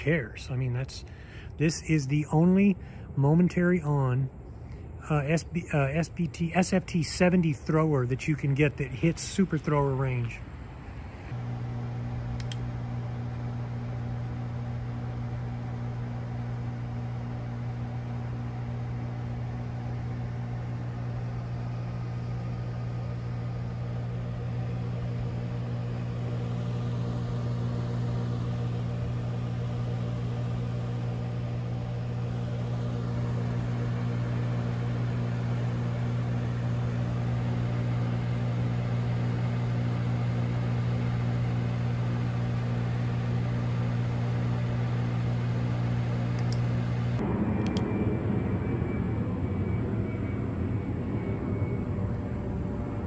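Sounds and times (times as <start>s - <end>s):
air conditioner humming: 0.0s - 47.9s.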